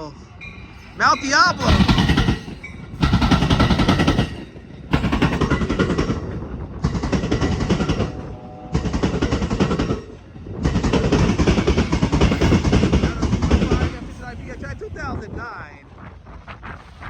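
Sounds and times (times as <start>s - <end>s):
train wheels clattering over crossing: 0.0s - 17.0s.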